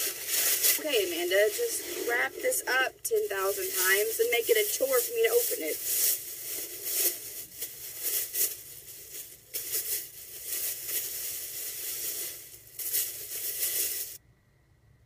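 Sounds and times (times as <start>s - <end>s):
wrapping paper rustling and crinkling: 0.0s - 14.2s.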